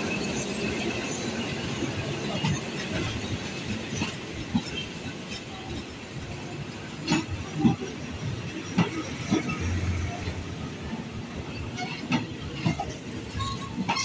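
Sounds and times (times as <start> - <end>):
train coaches rumbling past: 0.0 - 14.0.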